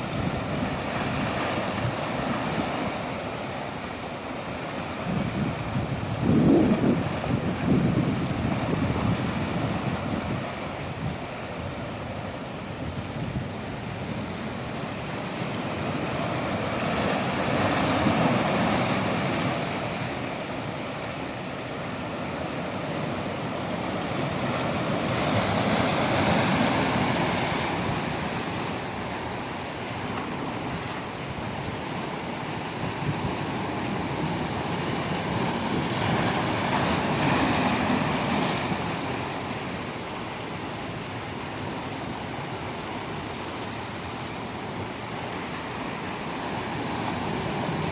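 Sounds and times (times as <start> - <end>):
ocean waves on shore: 0.0 - 47.9.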